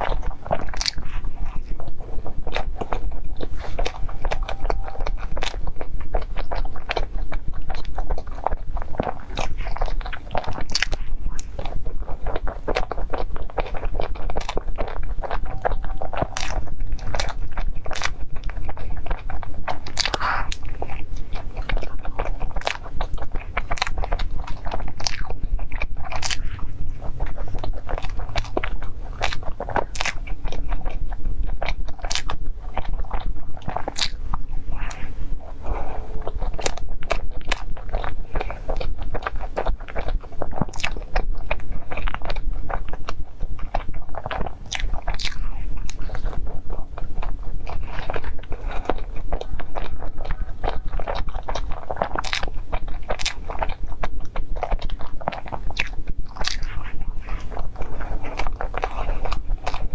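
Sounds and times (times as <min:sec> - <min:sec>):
close chewing and biting: 0:00.0 - 0:59.9.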